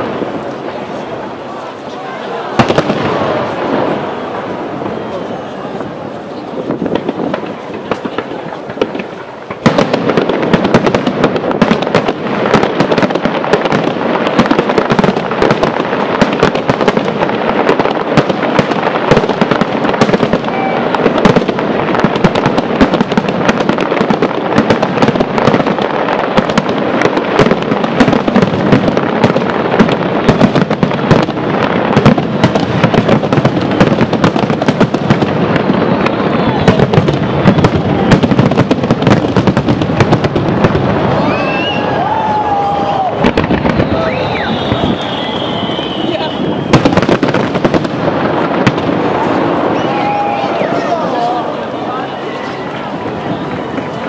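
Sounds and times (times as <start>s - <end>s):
firework crackles: 0.0s - 54.0s.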